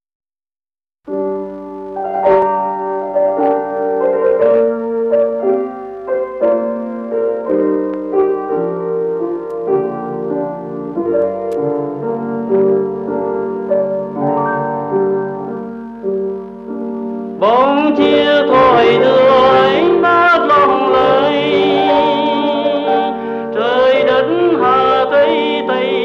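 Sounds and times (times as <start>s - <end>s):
slow piano music: 1.1s - 26.0s.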